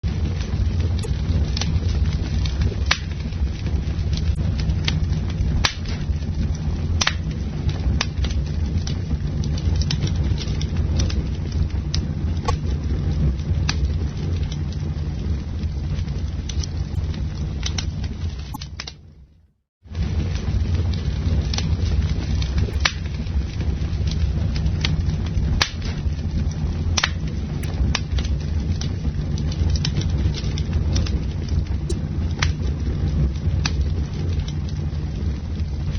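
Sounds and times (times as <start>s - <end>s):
bonfire roaring: 0.0s - 35.9s
wood crackling and popping: 0.1s - 35.9s.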